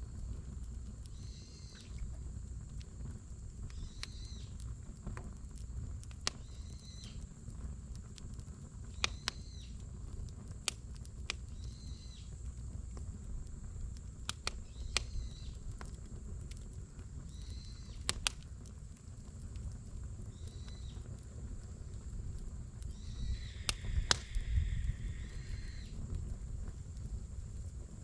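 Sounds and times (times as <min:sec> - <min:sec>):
campfire crackling: 0:00.0 - 0:28.0
low fire rumble: 0:00.0 - 0:28.0.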